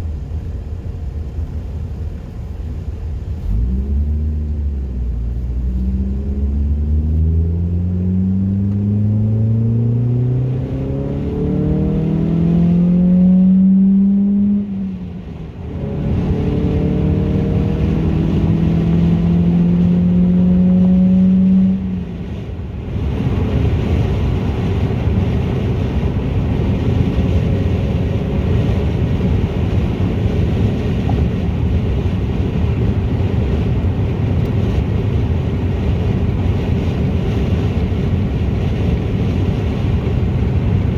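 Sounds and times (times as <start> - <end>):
car exhaust accelerating: 0.0 - 40.9
rough low rumbling: 2.7 - 40.9.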